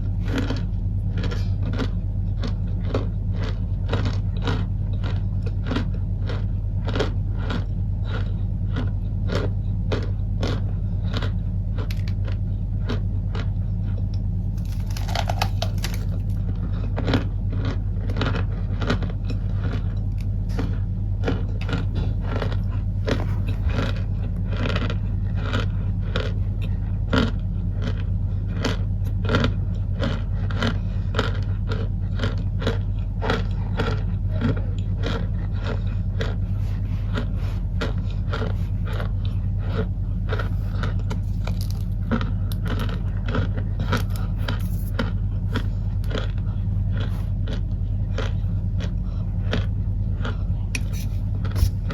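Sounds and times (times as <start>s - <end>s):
cornstarch crunching: 0.0s - 51.9s
steady low hum: 0.0s - 51.9s.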